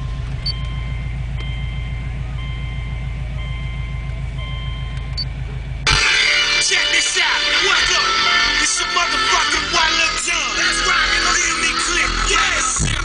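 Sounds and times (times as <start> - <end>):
bass-heavy music from car stereo: 0.0 - 13.0
car engine idling: 0.0 - 13.0.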